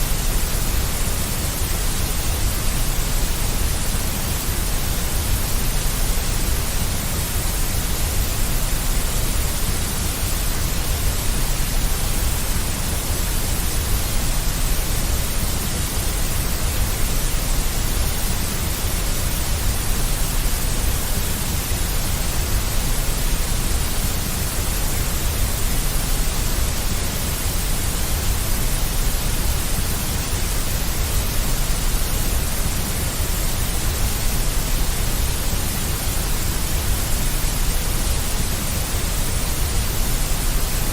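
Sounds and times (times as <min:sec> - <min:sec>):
white noise with low rumble: 0:00.0 - 0:40.9.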